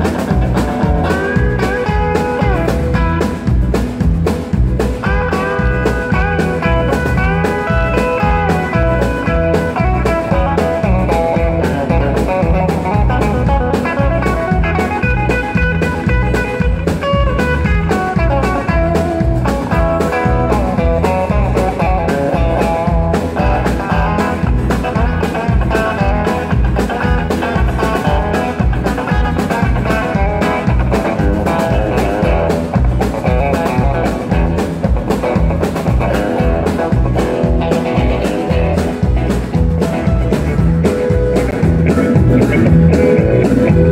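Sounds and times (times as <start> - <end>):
electric guitar lead: 0.0 - 43.9
steady drum beat: 0.0 - 43.9
strummed acoustic guitar: 0.0 - 43.9.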